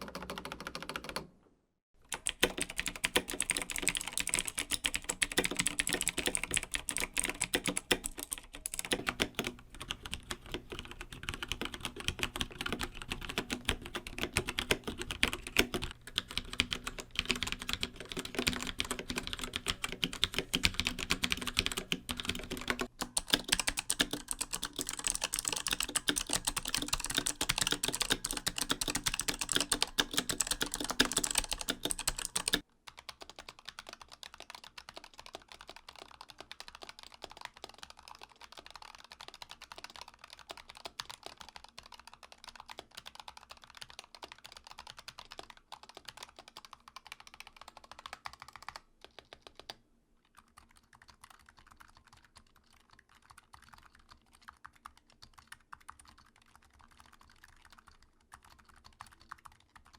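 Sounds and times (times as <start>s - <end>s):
mechanical keyboard typing: 0.0s - 1.4s, 2.0s - 49.8s, 50.4s - 59.9s.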